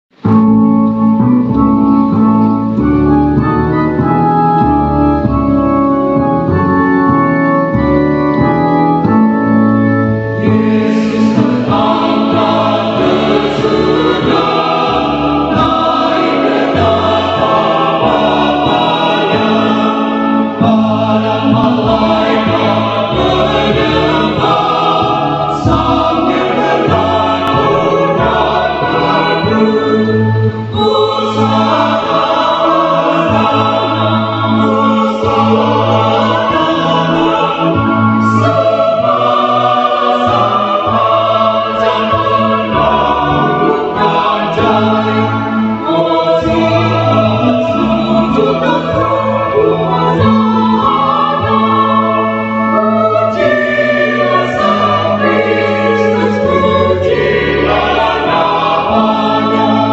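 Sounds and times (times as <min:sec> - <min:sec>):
organ playing chords: 0:00.1 - 0:59.9
choir singing a hymn: 0:01.2 - 0:59.9.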